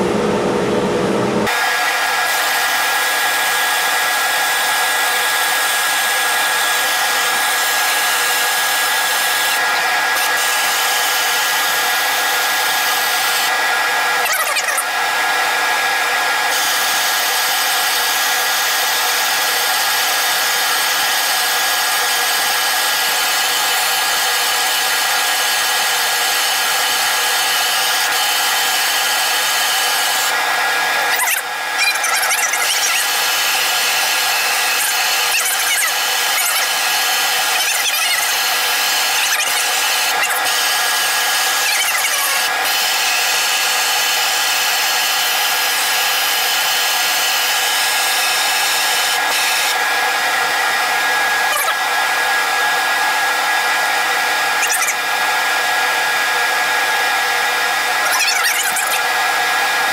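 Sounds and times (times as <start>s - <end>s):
wood lathe turning wood: 1.5s - 59.9s.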